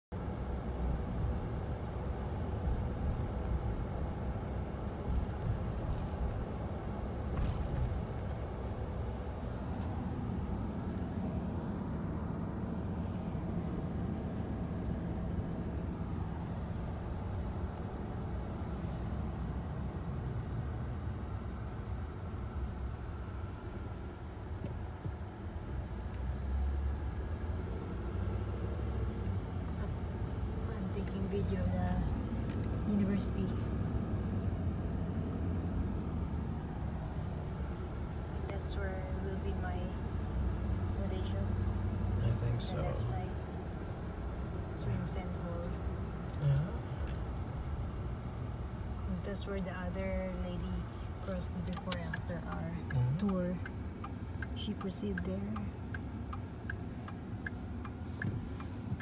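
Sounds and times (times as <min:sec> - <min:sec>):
car cabin engine and road noise: 0:00.1 - 0:59.0.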